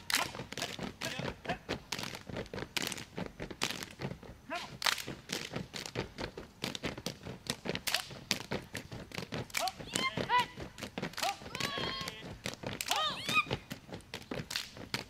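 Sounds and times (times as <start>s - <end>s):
boots stamping and slapping: 0.0s - 15.0s.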